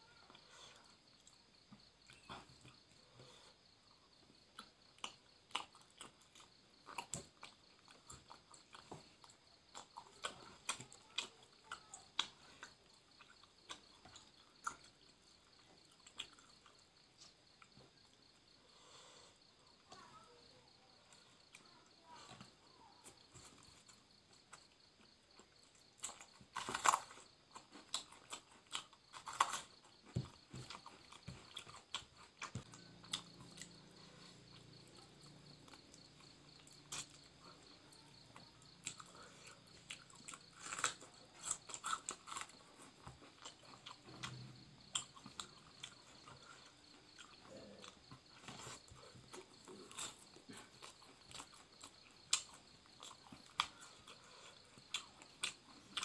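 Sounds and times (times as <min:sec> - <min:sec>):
chewing and lip smacks: 0:04.4 - 0:18.2, 0:23.4 - 0:56.0.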